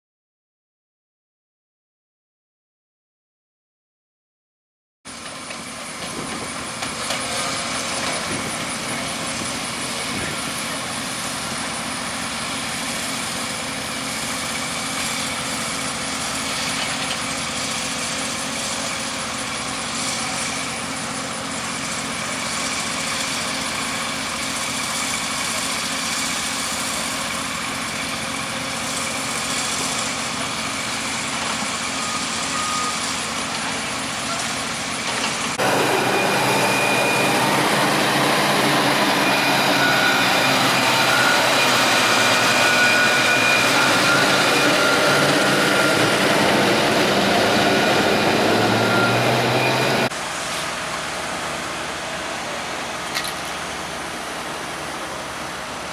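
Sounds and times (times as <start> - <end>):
heavy equipment engines running: 5.1 - 55.9.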